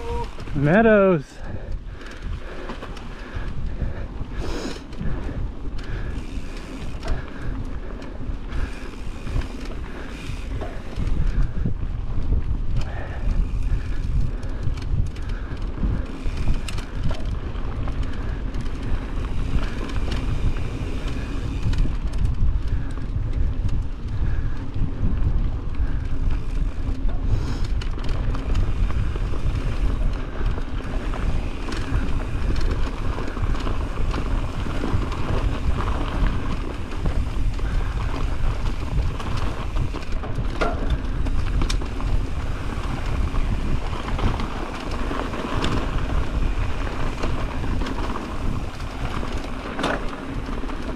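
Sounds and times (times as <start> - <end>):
bike clicks and rattles: 0.0 - 50.9
wind buffeting microphone: 0.0 - 50.9.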